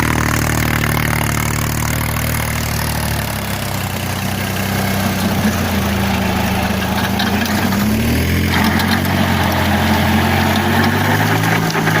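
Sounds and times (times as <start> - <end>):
rotavator working: 0.0 - 12.0
tractor diesel engine running: 0.0 - 12.0.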